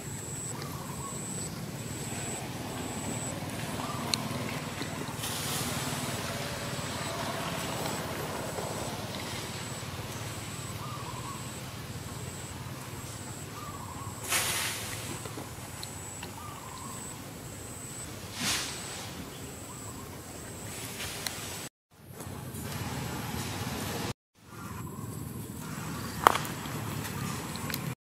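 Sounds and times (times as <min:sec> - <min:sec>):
distant traffic rumble: 0:00.0 - 0:21.3, 0:22.0 - 0:28.0.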